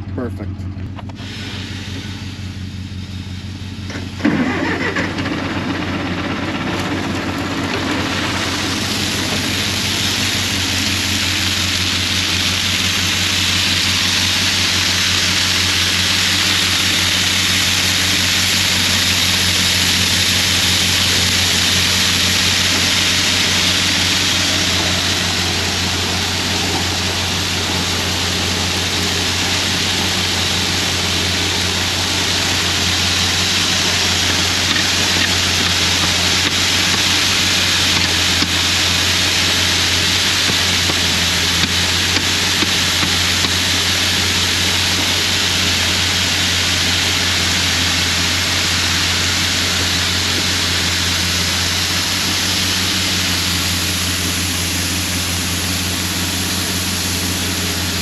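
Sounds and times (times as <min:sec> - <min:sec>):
tractor engine running: 0:00.0 - 0:58.0
grain auger starting: 0:03.5 - 0:58.0
corn pouring rushing sound: 0:03.8 - 0:58.0.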